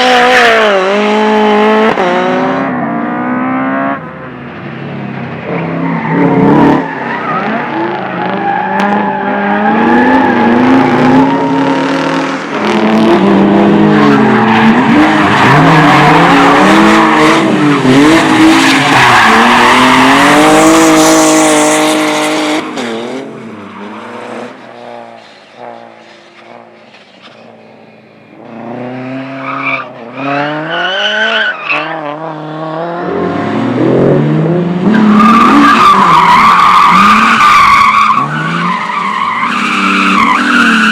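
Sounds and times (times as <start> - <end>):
car engine revving: 0.0 - 40.9
tyres squealing and skidding: 4.6 - 32.1, 34.8 - 40.9.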